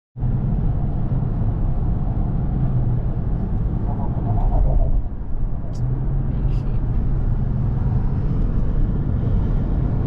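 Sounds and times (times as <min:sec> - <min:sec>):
road and engine rumble in car: 0:00.2 - 0:10.0.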